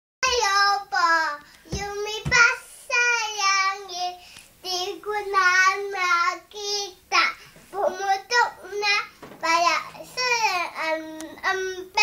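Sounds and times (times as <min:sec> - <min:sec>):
boy singing unaccompanied: 0:00.2 - 0:12.0.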